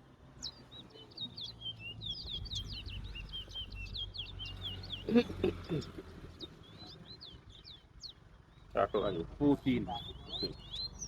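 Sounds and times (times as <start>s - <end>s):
songbird singing whistled notes: 0.3s - 5.1s, 5.8s - 11.0s.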